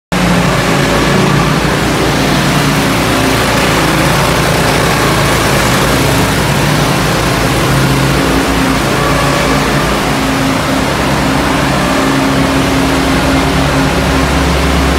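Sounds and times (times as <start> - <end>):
small gasoline engine running: 0.1 - 14.9.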